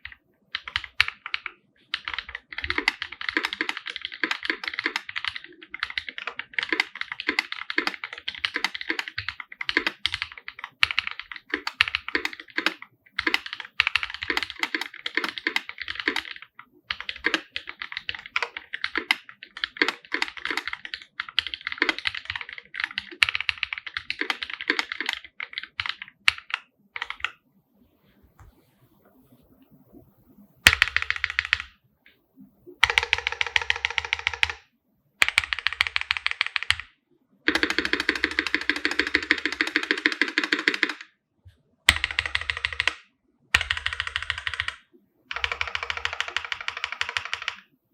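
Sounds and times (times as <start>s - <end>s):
mechanical keyboard typing: 0.0s - 27.4s, 30.6s - 31.8s, 32.8s - 34.6s, 35.2s - 41.2s, 41.9s - 47.7s.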